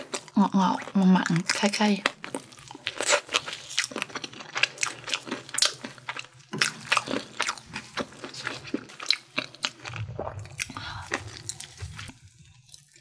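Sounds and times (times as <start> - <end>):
chewing crispy fried chicken: 0.0 - 13.0.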